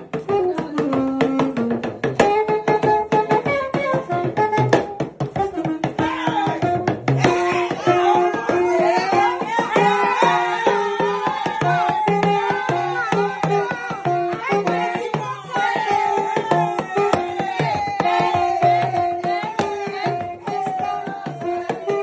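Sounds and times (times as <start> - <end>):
melody over drum beat: 0.0 - 22.0.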